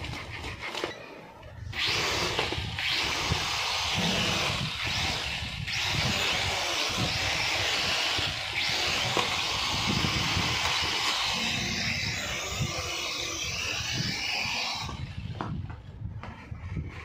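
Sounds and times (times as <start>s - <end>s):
toy drone motors whirring: 0.0s - 15.7s.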